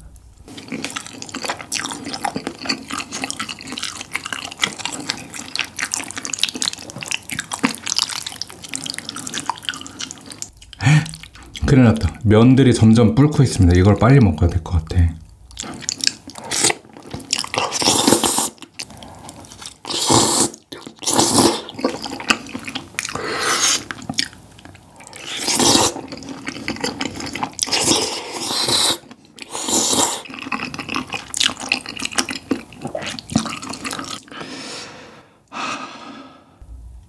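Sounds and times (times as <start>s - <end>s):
chewing: 0.5s - 11.6s, 15.5s - 34.5s
noodles slurped: 0.5s - 11.6s, 15.5s - 34.5s.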